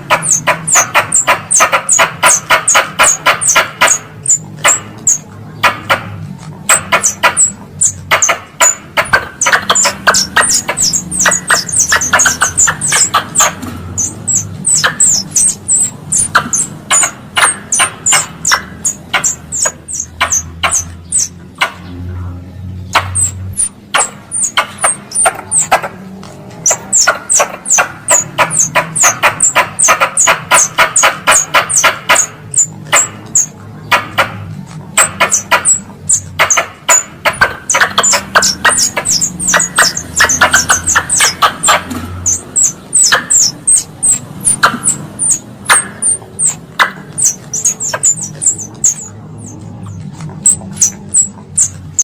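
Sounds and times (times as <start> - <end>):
squirrel high-pitched chips: 0.0 - 5.3, 6.4 - 21.4, 22.9 - 25.8, 26.6 - 33.6, 34.7 - 52.0
squirrel clicking chatter: 0.0 - 22.1, 22.8 - 52.0.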